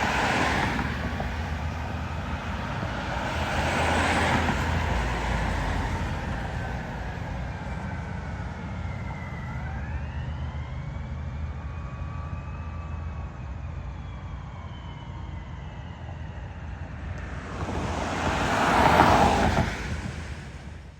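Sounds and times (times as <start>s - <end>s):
fire engine siren wailing: 0.0s - 20.5s
low traffic rumble: 0.0s - 20.9s.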